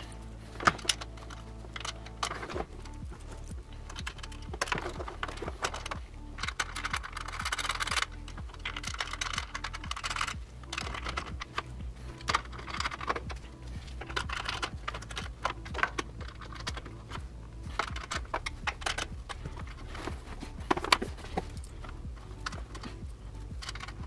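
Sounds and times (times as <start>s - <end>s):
low steady hum: 0.0s - 24.0s
metal hardware clicking and clattering: 0.0s - 24.0s.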